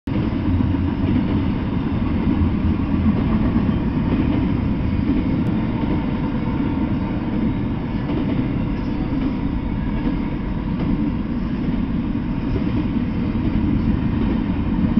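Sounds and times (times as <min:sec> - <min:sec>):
freight train rumbling past: 0:00.1 - 0:14.9.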